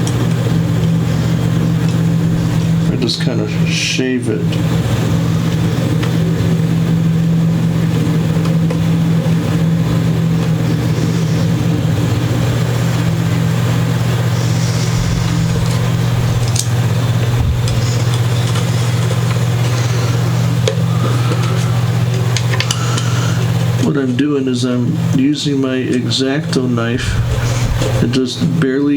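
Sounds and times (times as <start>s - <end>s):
low motor hum: 0.0s - 28.9s.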